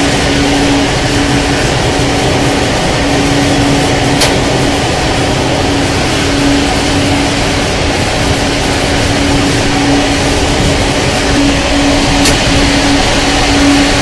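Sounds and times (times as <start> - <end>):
server cooling fans whooshing: 0.0 - 14.0.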